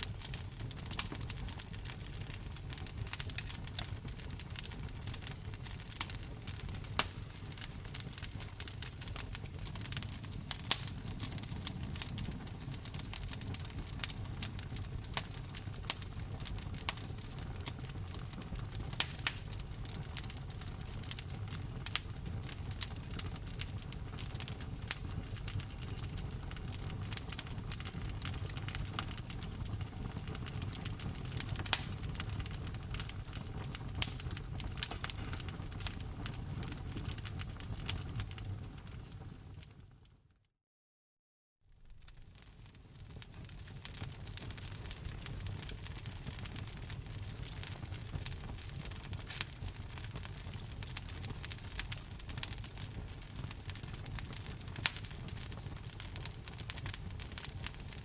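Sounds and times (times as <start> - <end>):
wood fire crackling and popping: 0.0 - 40.2, 41.8 - 58.0.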